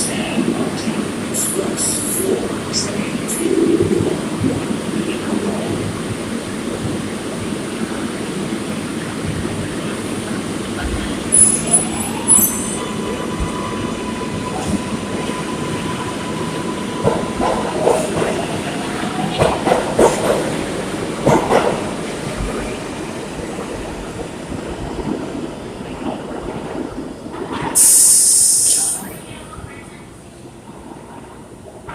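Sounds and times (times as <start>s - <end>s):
subway train rumble: 0.0s - 31.9s.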